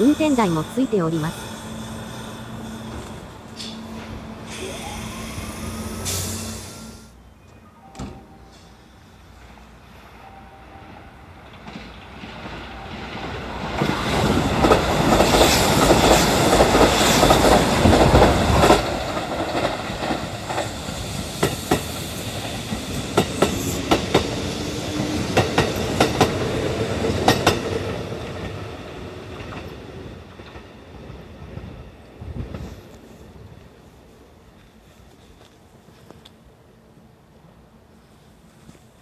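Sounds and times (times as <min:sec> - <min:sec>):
electric train rumble: 0:00.0 - 0:39.0.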